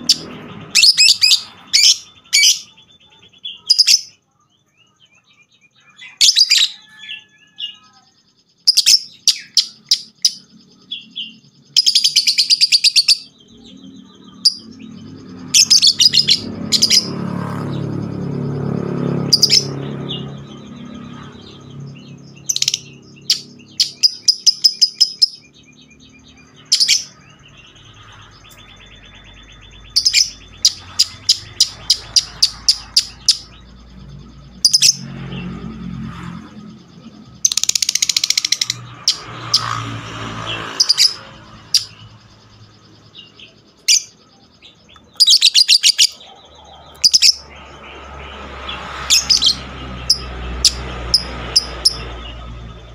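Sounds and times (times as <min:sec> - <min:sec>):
bird chattering chirps: 0:00.0 - 0:52.9.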